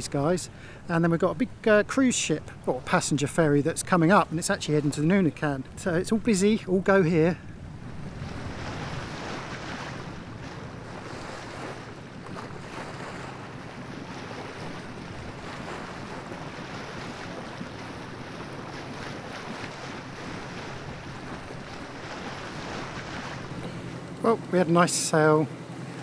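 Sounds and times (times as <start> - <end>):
water washing along hull: 0.0 - 26.0
wind buffeting microphone: 2.4 - 24.2.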